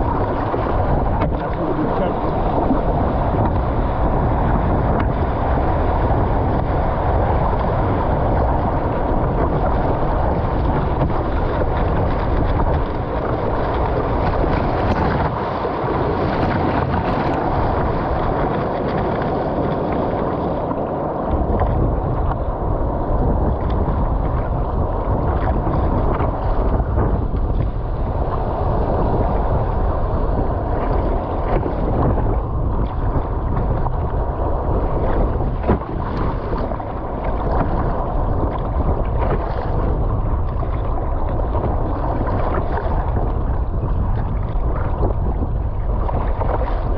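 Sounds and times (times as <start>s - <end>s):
water splashing along boat hull: 0.0s - 46.9s
wind buffeting microphone: 0.0s - 46.9s.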